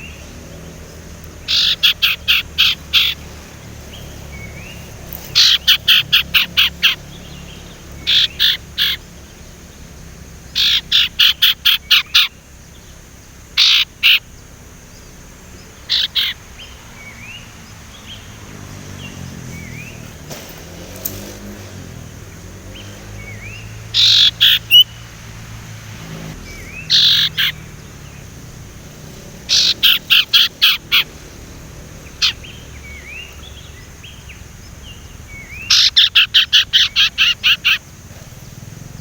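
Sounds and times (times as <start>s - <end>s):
songbird chattering: 0.0s - 39.0s.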